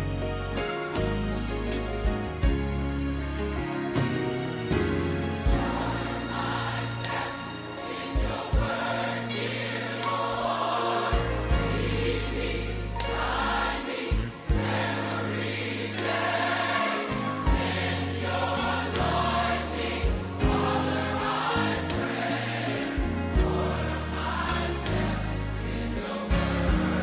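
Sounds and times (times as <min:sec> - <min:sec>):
gospel choir singing: 0:04.6 - 0:27.0.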